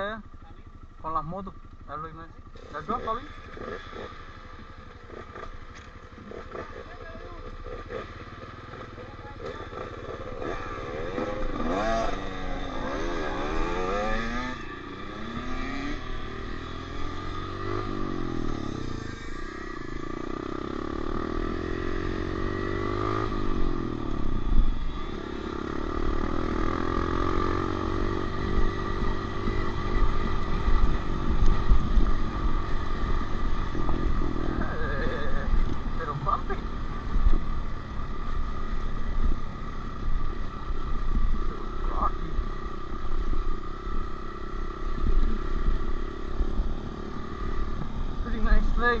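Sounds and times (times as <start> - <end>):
dirt bike engine revving: 2.4 - 49.0.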